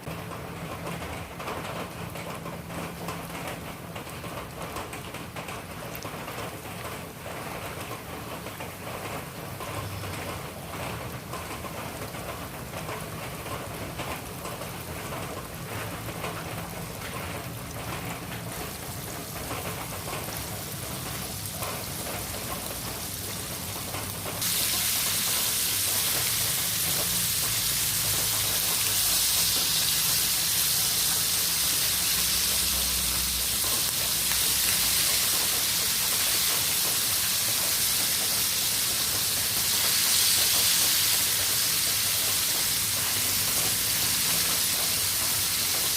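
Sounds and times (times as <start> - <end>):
hot oil sizzling in a pan: 7.5 - 45.9.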